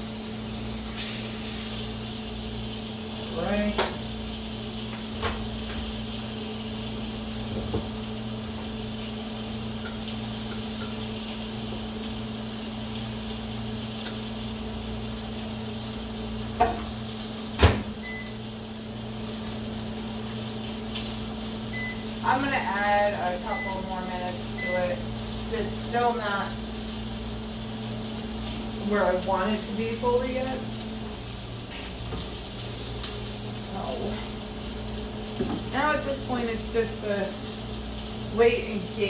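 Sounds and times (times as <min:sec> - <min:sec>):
chicken sizzling in a frying pan: 0:00.0 - 0:39.0
microwave oven humming: 0:00.0 - 0:39.0.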